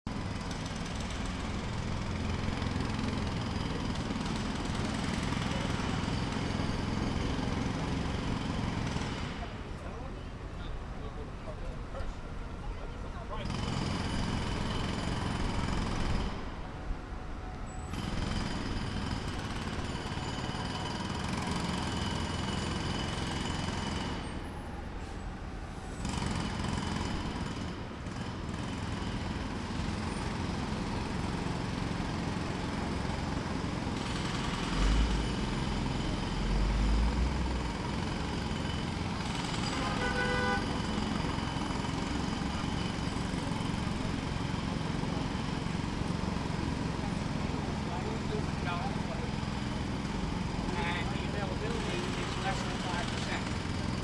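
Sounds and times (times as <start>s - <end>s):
jackhammer breaking concrete: 0.2s - 9.6s, 13.4s - 16.4s, 17.9s - 24.4s, 26.0s - 54.0s.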